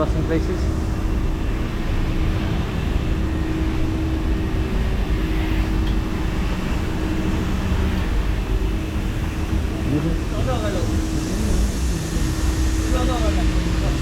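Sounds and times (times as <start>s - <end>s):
car wash machinery humming: 0.0s - 14.0s.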